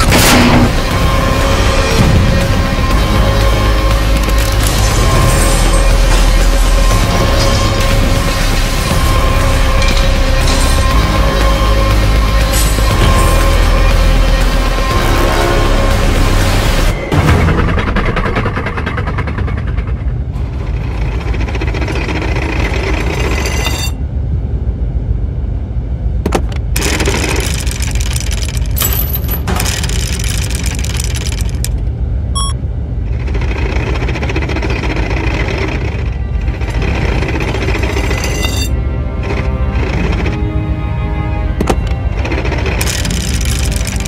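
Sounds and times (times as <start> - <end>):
tank engine rumbling: 0.0 - 24.0, 26.2 - 44.0.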